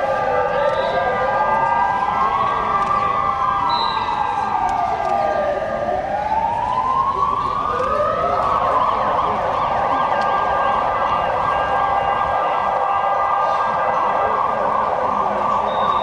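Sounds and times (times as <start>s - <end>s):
emergency sirens wailing: 0.0s - 16.0s.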